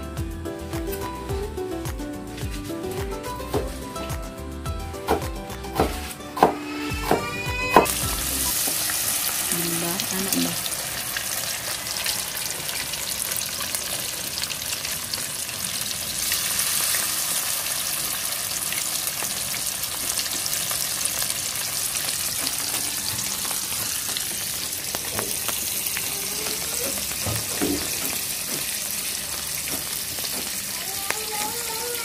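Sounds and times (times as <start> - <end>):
food deep-frying in hot oil: 5.8 - 32.0.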